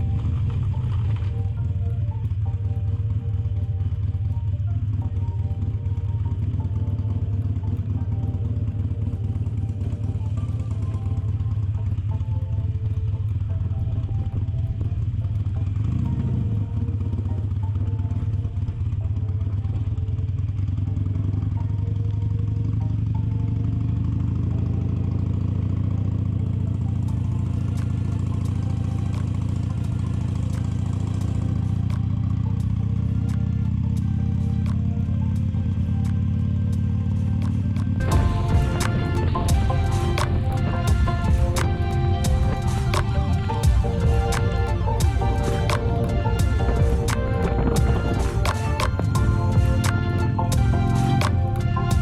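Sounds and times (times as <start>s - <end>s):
background music: 0.0s - 52.0s
motorcycle engine running: 0.0s - 52.0s.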